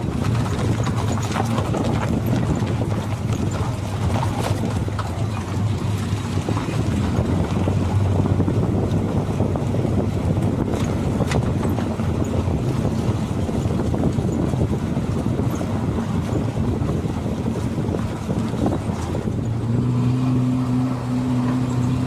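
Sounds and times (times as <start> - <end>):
vehicle engine and road rumble: 0.0 - 22.0
wind on microphone: 0.0 - 22.0.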